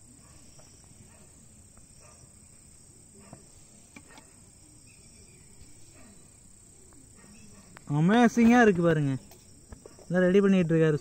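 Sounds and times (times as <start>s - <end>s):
faint high cricket trill: 0.0s - 11.0s.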